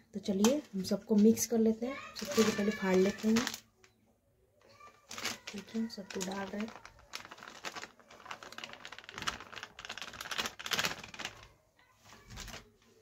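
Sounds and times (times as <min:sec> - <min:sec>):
plastic packet crinkling: 0:00.2 - 0:03.9, 0:04.6 - 0:12.7.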